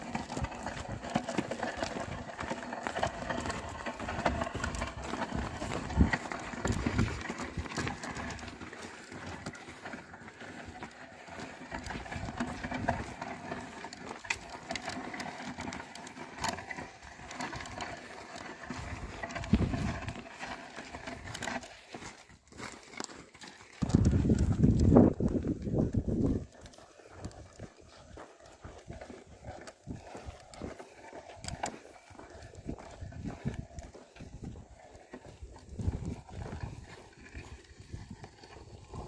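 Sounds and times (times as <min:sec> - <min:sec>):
hooves clopping on soil: 0:00.0 - 0:39.0.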